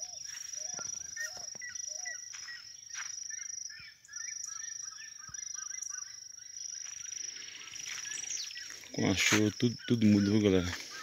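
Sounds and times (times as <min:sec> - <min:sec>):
birds calling: 0:00.0 - 0:11.0
high-pitched insect trill: 0:00.0 - 0:11.0.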